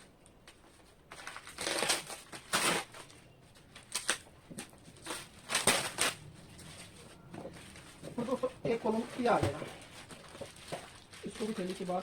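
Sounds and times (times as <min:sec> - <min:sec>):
packing material rustling: 0:00.0 - 0:12.0.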